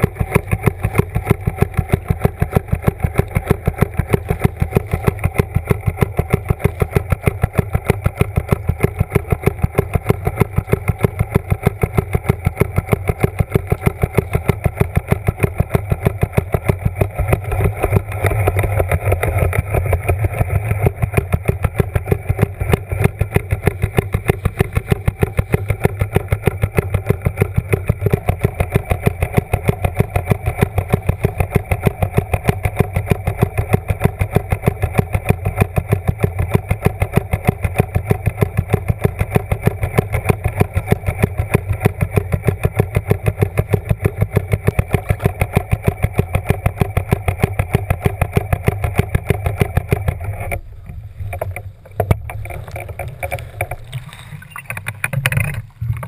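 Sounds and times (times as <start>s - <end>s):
underwater motor pulsing: 0.0s - 56.0s.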